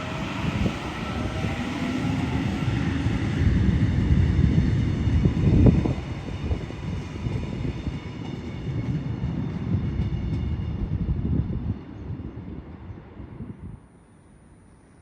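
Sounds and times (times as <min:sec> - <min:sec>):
train rumbling on tracks: 0:00.0 - 0:14.0
train high whine: 0:00.0 - 0:15.0.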